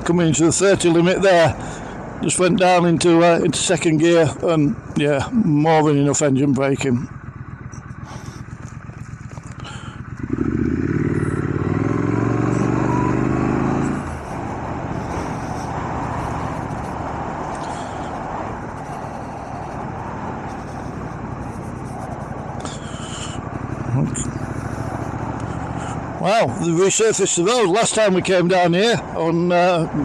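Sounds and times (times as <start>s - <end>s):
wind and road noise: 0.0s - 30.0s
motorcycle engine: 1.5s - 30.0s.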